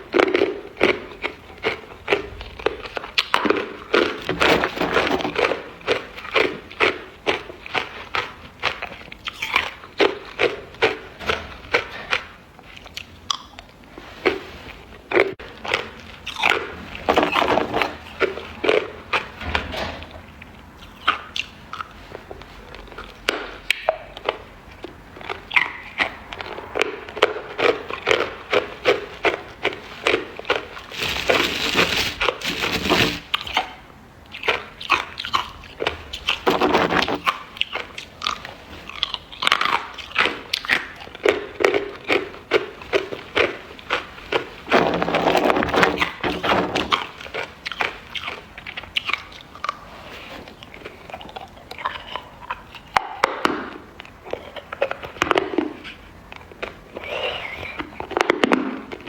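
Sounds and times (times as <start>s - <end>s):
ice being chewed: 0.0s - 19.3s, 20.3s - 59.0s.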